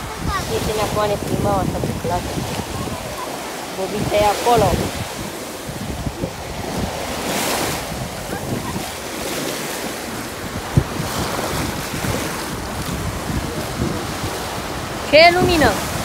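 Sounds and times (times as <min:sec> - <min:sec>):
small waves washing on sand: 0:00.0 - 0:16.0
wind buffeting microphone: 0:00.0 - 0:16.0.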